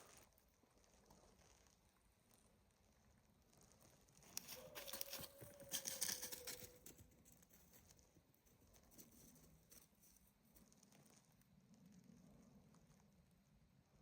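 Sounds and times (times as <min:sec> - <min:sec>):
rustling and crackling: 0:00.0 - 0:13.4.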